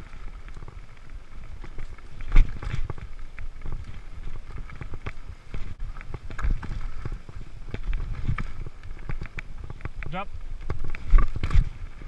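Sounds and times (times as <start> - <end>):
bike rattling and knocking: 0.0 - 12.0
bike tyres rumbling on dirt: 0.0 - 12.0.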